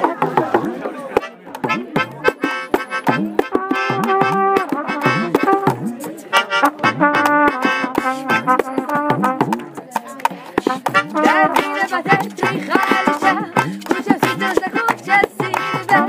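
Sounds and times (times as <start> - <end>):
drum beat: 0.0 - 16.0
hand claps: 0.0 - 16.0
trumpet playing: 1.2 - 9.7, 10.7 - 16.0.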